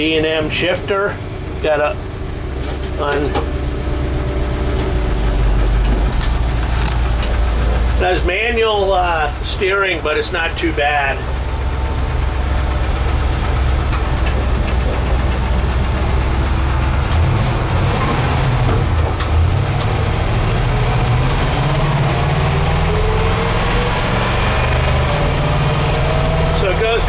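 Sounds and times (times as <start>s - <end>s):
engine running inside cab: 0.0s - 27.0s.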